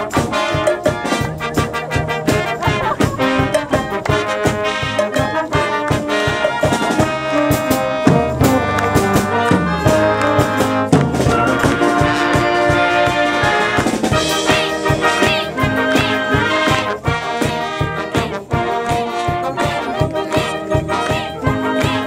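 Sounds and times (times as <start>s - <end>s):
steady drum beat: 0.0s - 22.0s
wind band playing: 0.0s - 22.0s.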